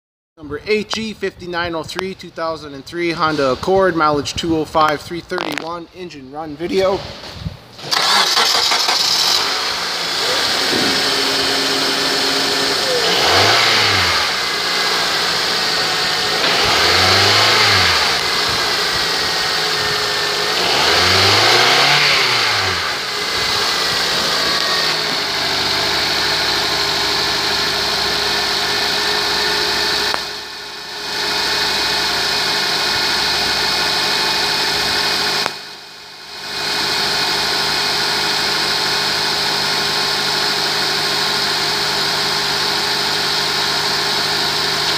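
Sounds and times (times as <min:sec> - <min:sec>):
car engine revving and idling: 0:07.8 - 0:44.9.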